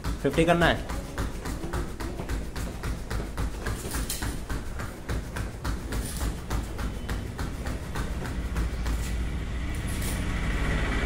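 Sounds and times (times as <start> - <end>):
bare feet slapping on foam mats: 0.0 - 11.0.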